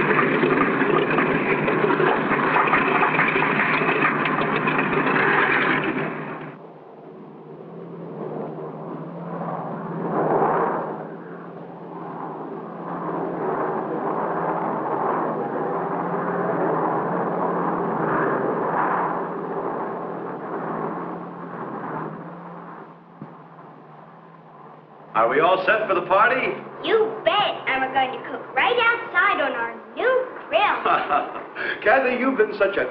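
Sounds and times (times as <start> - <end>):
rushing noise: 0.0 - 7.4, 12.1 - 32.9
aircraft engines droning: 0.0 - 32.9.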